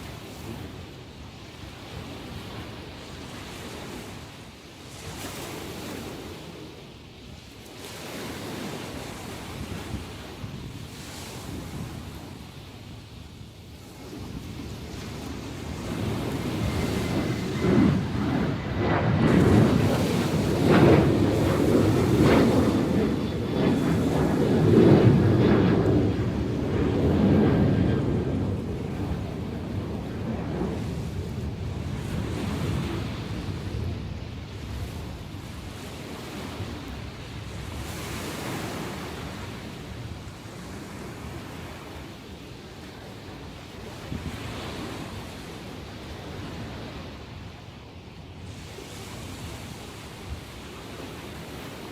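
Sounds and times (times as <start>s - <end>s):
sea surf breaking on shore: 0.0s - 51.9s
wind on microphone: 0.0s - 51.9s.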